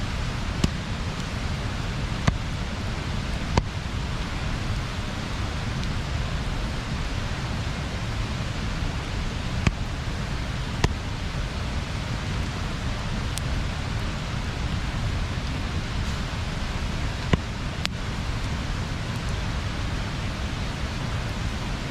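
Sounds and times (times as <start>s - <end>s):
water rushing over weir: 0.0s - 21.9s.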